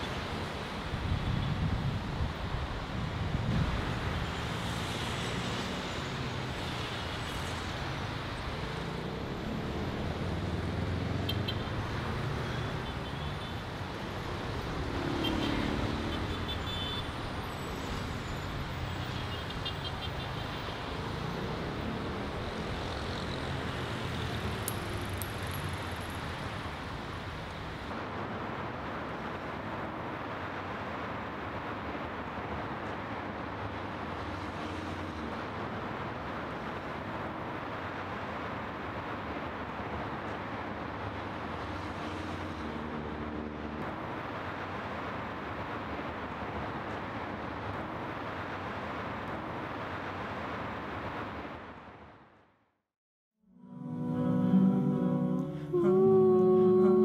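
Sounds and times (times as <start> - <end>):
cars and trucks passing: 0.0 - 52.6, 53.5 - 57.0.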